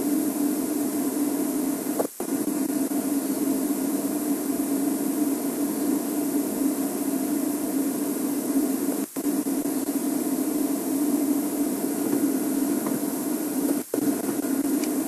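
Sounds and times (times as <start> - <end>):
steady hum with hiss: 0.0 - 15.0.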